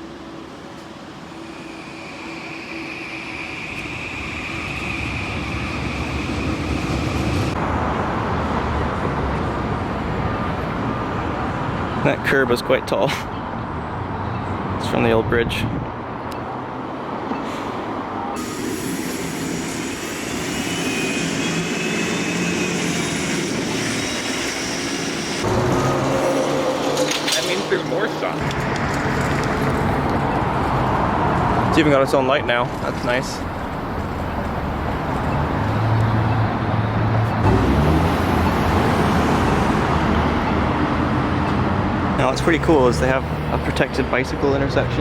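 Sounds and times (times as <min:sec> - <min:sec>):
engine rushing noise: 0:00.0 - 0:11.8, 0:17.8 - 0:45.0.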